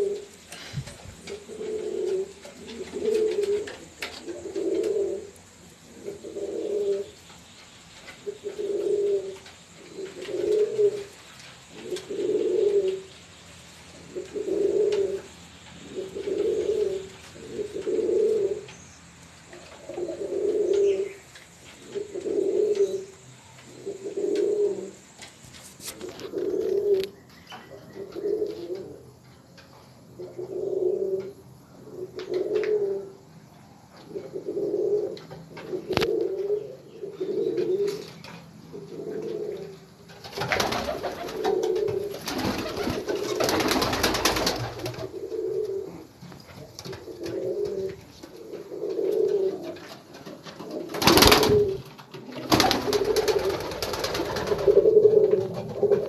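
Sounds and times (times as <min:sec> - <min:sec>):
pigeon cooing: 0:00.0 - 0:07.2, 0:08.2 - 0:13.1, 0:14.0 - 0:18.8, 0:19.6 - 0:25.0, 0:25.9 - 0:29.2, 0:30.2 - 0:33.2, 0:34.0 - 0:56.0.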